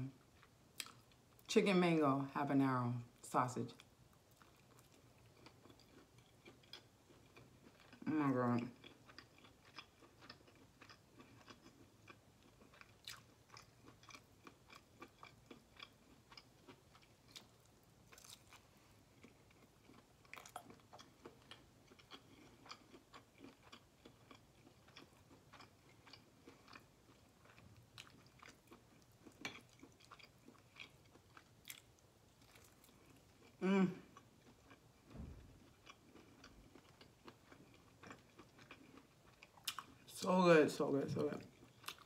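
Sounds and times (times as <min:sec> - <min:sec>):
person chewing food: 0:00.1 - 0:01.5, 0:03.8 - 0:40.1, 0:41.2 - 0:42.0.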